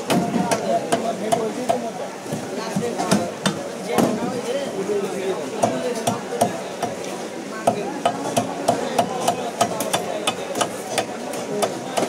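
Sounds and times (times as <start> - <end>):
murmur of voices: 0.0 - 12.0.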